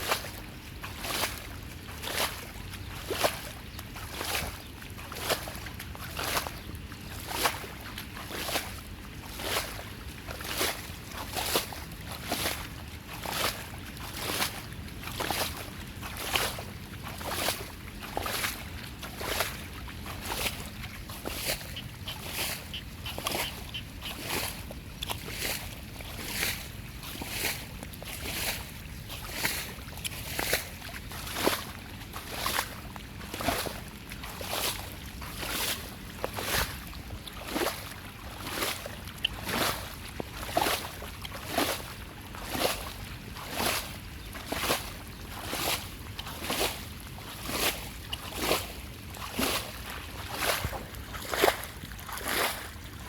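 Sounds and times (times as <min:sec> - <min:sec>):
rhythmic splashing in water: 0:00.0 - 0:53.0.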